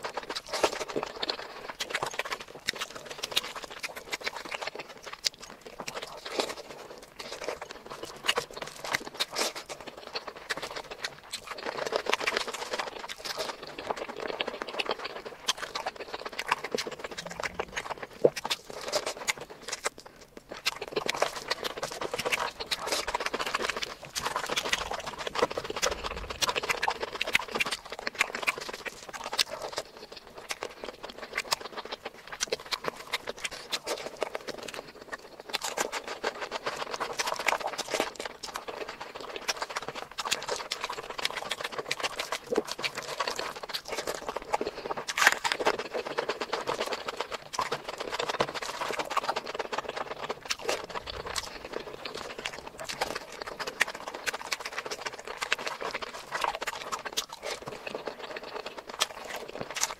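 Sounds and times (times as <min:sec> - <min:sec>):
fingers squishing saucy rice: 0:00.0 - 0:59.9
wet chewing and lip smacking: 0:00.0 - 0:59.9.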